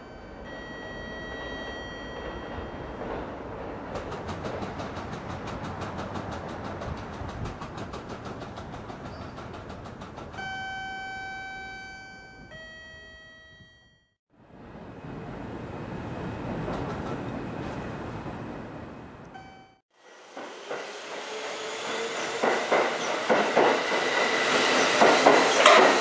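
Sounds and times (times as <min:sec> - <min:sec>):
train rushing: 0:00.0 - 0:11.1, 0:14.4 - 0:19.4, 0:20.0 - 0:26.0.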